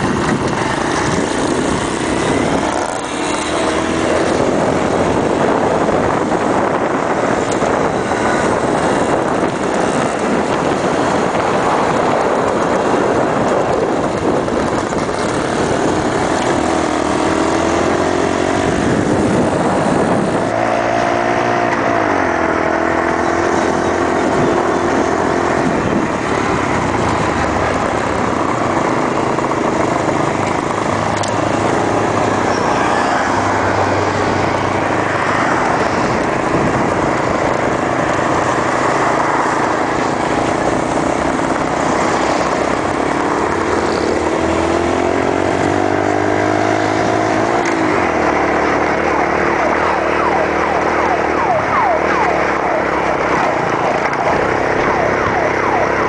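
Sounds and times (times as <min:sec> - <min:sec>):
small motorcycle engines revving: 0:00.0 - 0:56.0.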